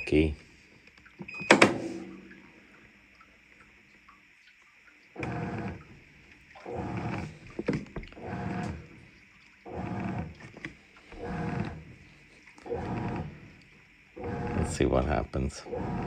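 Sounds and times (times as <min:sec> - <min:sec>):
washing machine agitating: 0:01.1 - 0:03.4, 0:04.0 - 0:16.0.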